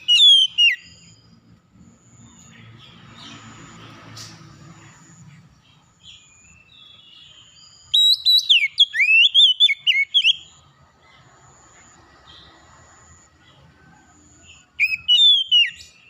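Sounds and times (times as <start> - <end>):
faint background bird chirps: 0.0 - 16.0
songbird whistled song: 0.0 - 16.0.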